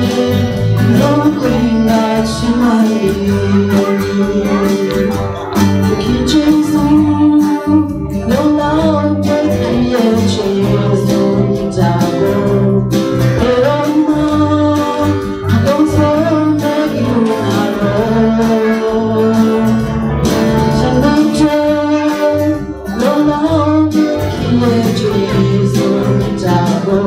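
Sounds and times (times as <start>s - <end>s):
woman singing into microphone: 0.0s - 20.0s, 20.6s - 27.0s
strummed acoustic guitar: 0.0s - 27.0s.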